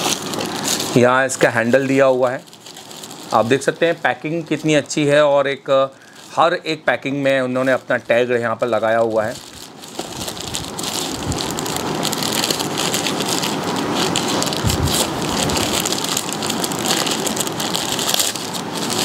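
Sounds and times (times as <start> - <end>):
packing wrap crinkling: 0.0 - 19.0.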